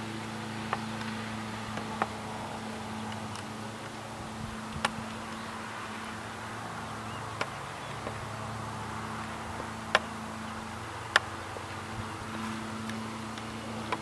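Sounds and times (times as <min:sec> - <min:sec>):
distant train low hum: 0:00.0 - 0:14.0.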